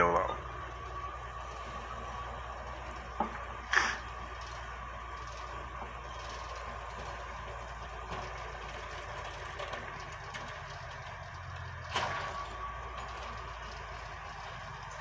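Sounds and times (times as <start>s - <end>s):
dragline engine and winches: 0.0s - 15.0s.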